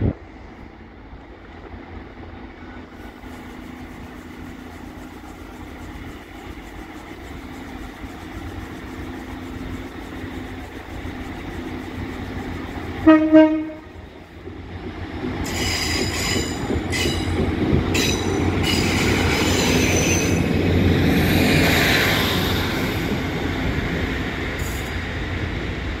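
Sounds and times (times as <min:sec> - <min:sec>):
train diesel engine droning: 0:00.0 - 0:26.0.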